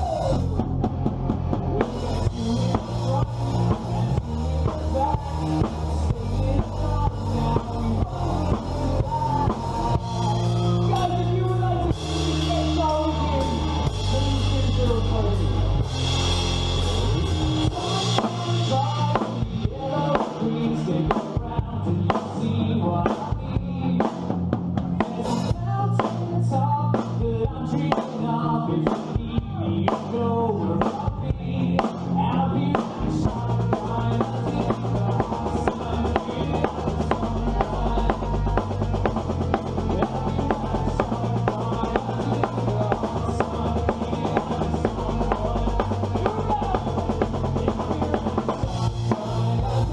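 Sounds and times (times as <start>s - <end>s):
person singing: 0.0s - 0.8s, 1.6s - 24.3s, 24.9s - 49.9s
band playing pop-rock song: 0.0s - 49.9s.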